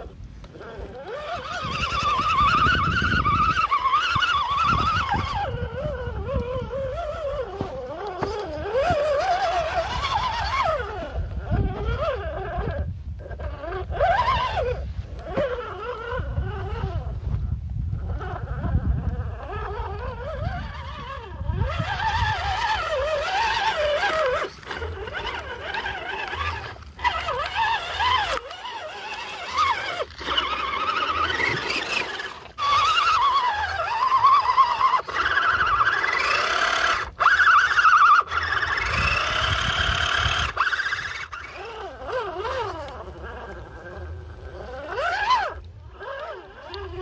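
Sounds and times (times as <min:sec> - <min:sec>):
rc car electric motor whining: 0:00.0 - 0:47.0.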